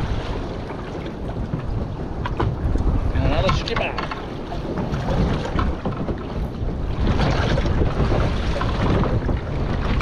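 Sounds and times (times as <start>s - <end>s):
sea rushing around boat: 0.0s - 10.0s
wind buffeting microphone: 0.0s - 10.0s.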